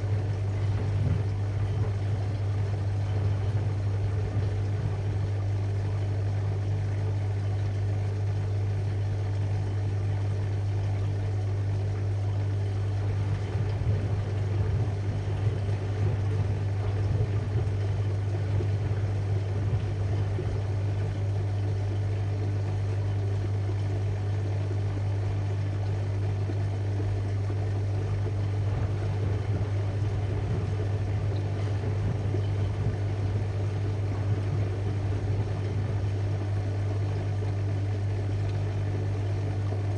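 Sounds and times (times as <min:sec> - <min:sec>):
washing machine drum motor humming: 0:00.0 - 0:39.9
water filling: 0:00.0 - 0:39.9.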